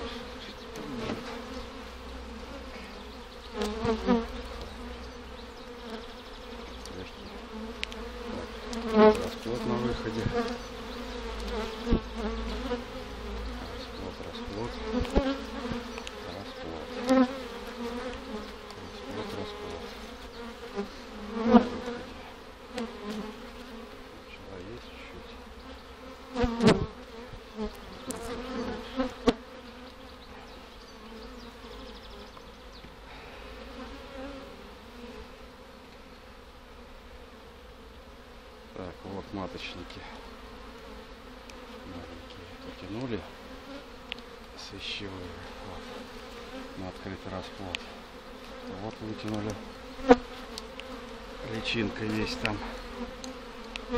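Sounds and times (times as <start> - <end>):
bees buzzing: 0.0 - 53.9.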